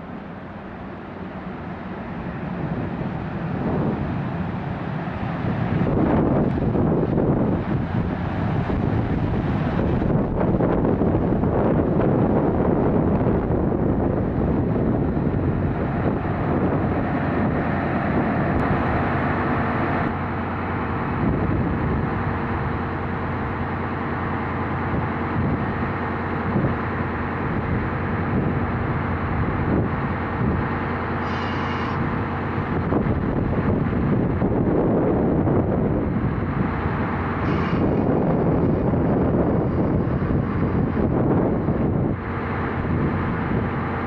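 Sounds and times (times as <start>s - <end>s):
train engine hum and rumble: 0.0s - 44.0s
wind buffeting microphone: 0.0s - 44.0s.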